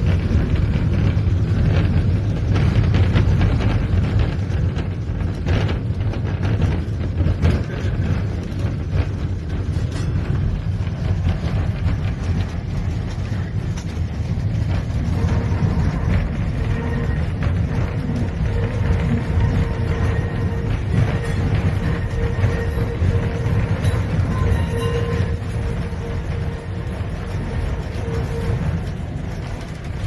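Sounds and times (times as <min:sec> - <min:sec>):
tram wheels rumbling: 0:00.0 - 0:30.0.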